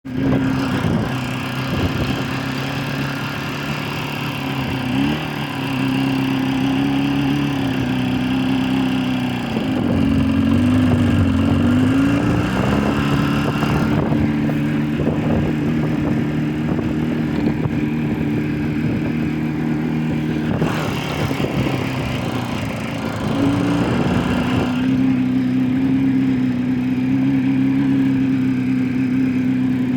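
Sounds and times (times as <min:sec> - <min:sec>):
motorcycle engine idling: 0:00.1 - 0:29.9.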